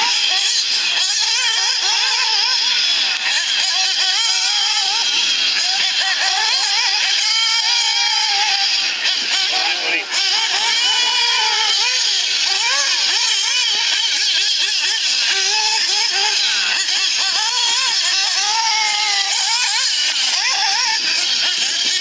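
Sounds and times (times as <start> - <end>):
small rc engines buzzing: 0.0 - 22.0.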